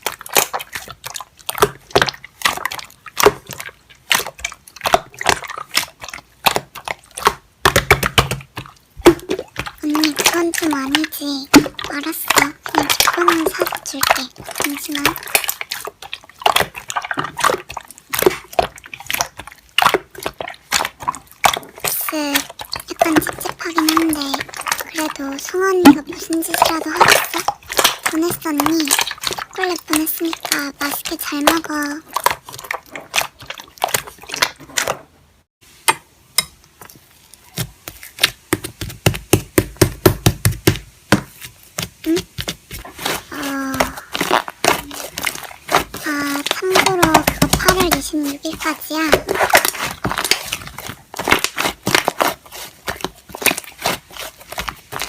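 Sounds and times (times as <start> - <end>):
slime squished by hand: 0.0 - 35.0, 36.8 - 55.0.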